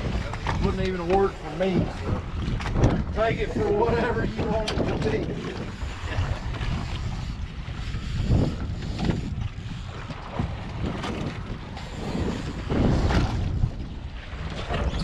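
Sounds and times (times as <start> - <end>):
waves washing against hull: 0.0 - 15.0
wind buffeting microphone: 0.0 - 15.0.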